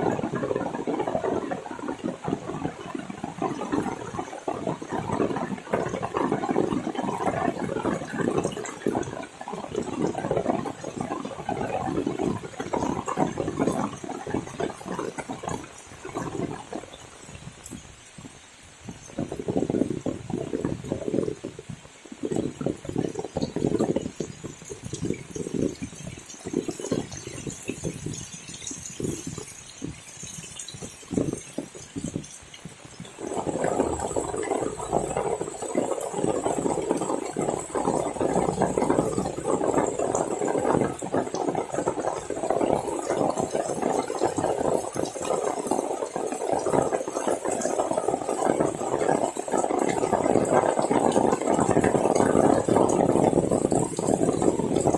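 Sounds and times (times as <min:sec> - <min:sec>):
heavy rain: 0:00.0 - 0:54.9
steady rush of falling water: 0:00.0 - 0:54.9.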